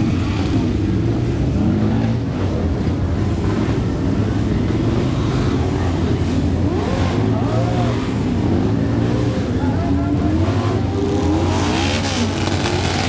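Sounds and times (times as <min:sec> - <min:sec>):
crowd chattering: 0:00.0 - 0:13.0.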